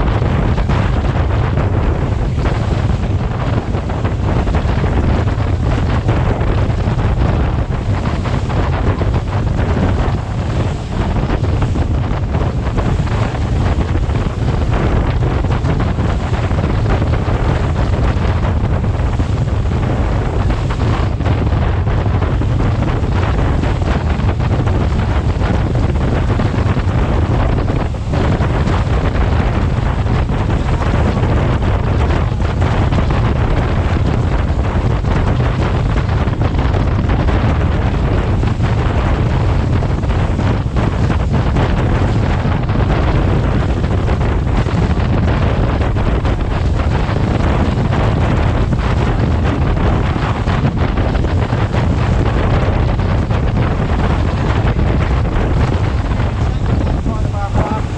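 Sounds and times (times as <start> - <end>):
rushing water: 0.0 - 57.9
wind buffeting microphone: 0.0 - 57.9.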